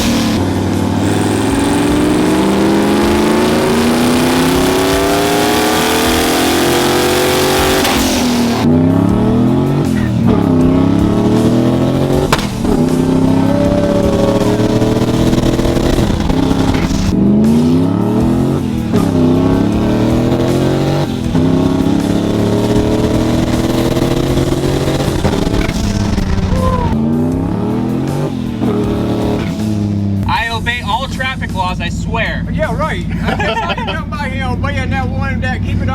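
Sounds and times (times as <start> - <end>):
car engines accelerating and revving: 0.0 - 35.9.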